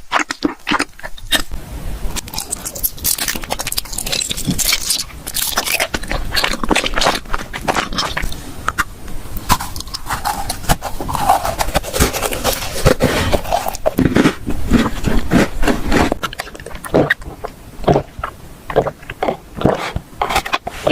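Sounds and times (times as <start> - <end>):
person chewing food: 0.0 - 20.9
wet smacking and crunching: 0.0 - 20.9.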